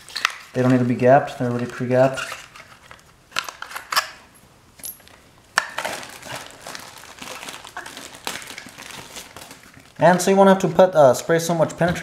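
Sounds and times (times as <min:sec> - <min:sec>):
packaging rustling: 0:00.0 - 0:04.3, 0:04.9 - 0:11.4.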